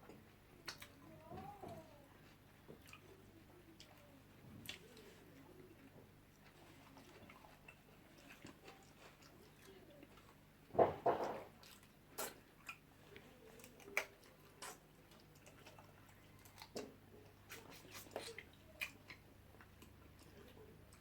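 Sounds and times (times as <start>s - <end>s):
person chewing food: 0.1s - 1.0s, 2.2s - 10.6s, 11.2s - 21.0s.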